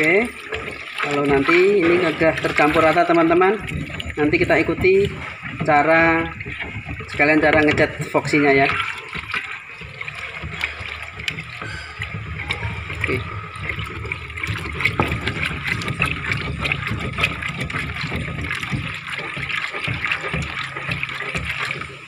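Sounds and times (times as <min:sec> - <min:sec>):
liquid sloshing in a tin: 0:00.0 - 0:22.0.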